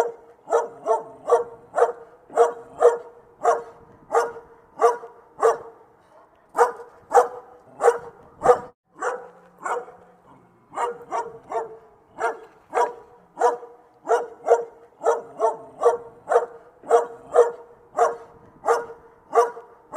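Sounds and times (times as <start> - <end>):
dog barking: 0.0 - 10.1, 10.7 - 19.9.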